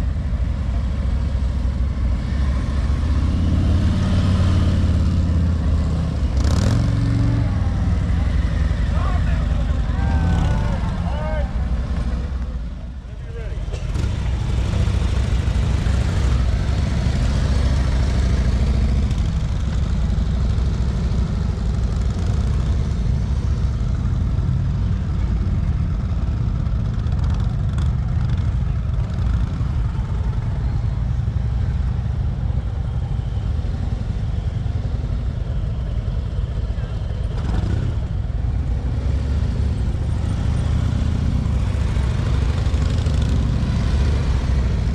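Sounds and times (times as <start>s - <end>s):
motorcycle engine low rumble: 0.0s - 44.9s.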